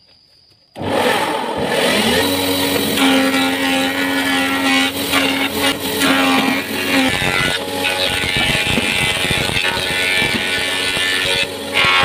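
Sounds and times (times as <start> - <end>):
electric motor machine whirring: 0.8 - 12.0.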